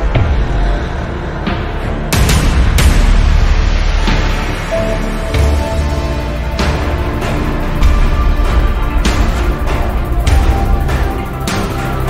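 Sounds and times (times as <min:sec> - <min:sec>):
dramatic music with heavy bass: 0:00.0 - 0:12.0.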